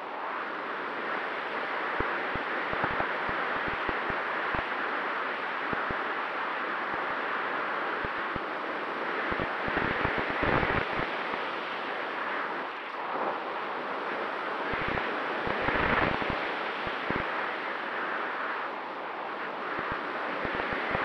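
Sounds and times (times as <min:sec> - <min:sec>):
airflow rushing over microphone: 0:00.0 - 0:21.0.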